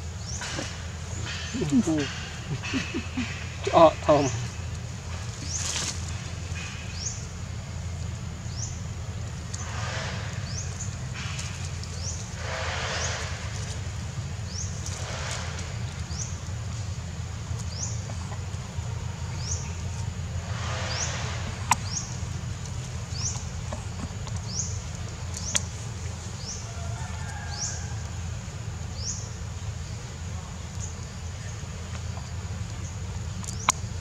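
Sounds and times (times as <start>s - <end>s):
leaves and branches rustling: 0.0s - 34.0s.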